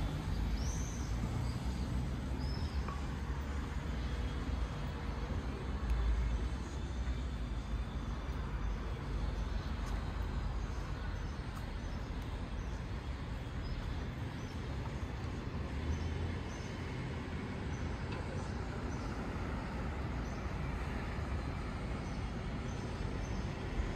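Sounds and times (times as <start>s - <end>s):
city street rumble: 0.0s - 23.9s.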